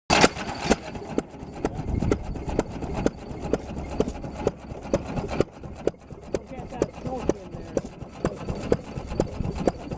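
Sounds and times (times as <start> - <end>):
gas engine knocking: 0.1 - 9.9.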